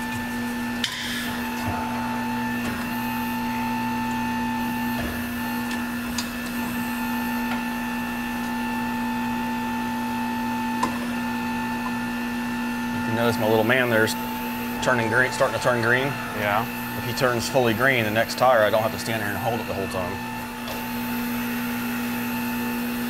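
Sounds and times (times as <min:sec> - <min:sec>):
electric drive hum: 0:00.0 - 0:23.0
wheel turning whine: 0:00.0 - 0:23.0.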